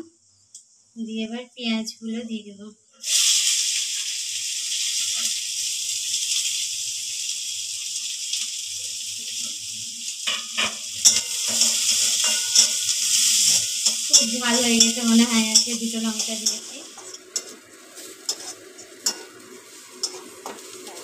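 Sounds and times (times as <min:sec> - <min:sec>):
onions sizzling in oil: 0:03.0 - 0:21.0.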